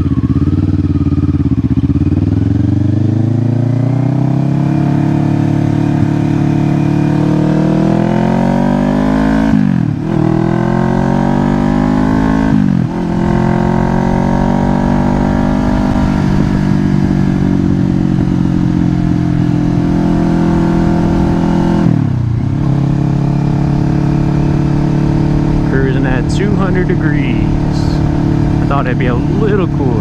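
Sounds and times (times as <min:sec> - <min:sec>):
motorcycle engine shifting up: 0:00.0 - 0:30.0
low wind rumble: 0:01.5 - 0:30.0.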